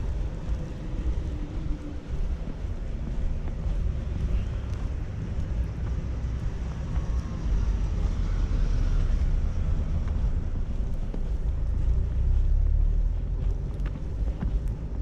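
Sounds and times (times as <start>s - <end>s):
passing traffic: 0.0s - 15.0s
wind buffeting microphone: 0.0s - 15.0s.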